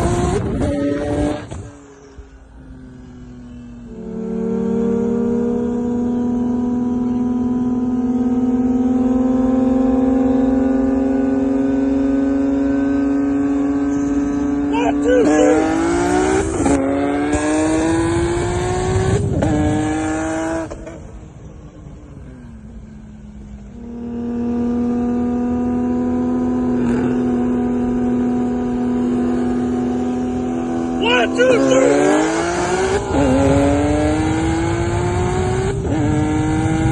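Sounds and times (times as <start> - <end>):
car engine accelerating: 0.0 - 36.9.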